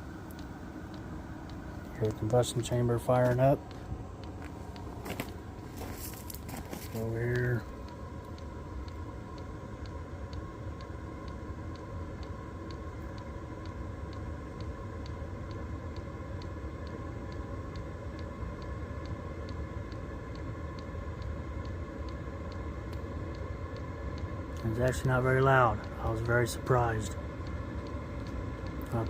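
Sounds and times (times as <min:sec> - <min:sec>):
heater rumble and hum: 0:00.0 - 0:29.0.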